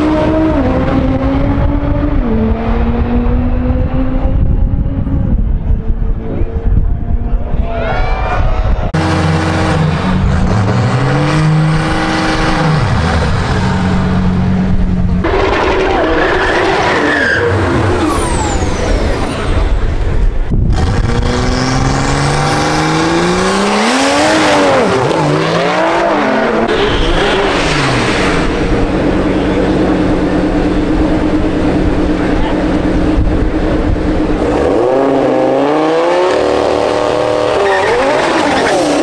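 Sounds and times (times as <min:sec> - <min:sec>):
drag racing engines revving: 0:00.0 - 0:08.0, 0:08.6 - 0:39.0.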